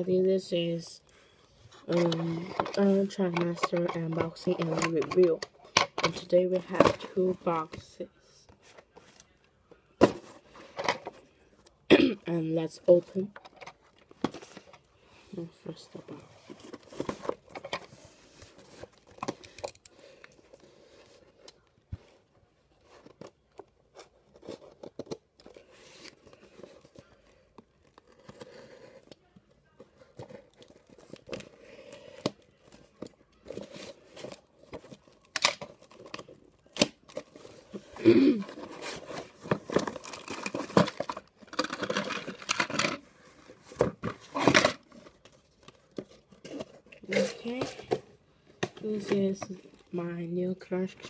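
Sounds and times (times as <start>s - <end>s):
cardboard and plastic rustling: 1.6s - 11.4s, 12.9s - 51.0s.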